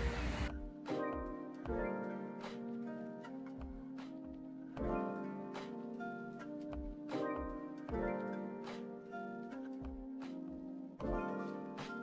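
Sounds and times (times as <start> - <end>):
lofi music with soft keys: 0.0 - 12.0.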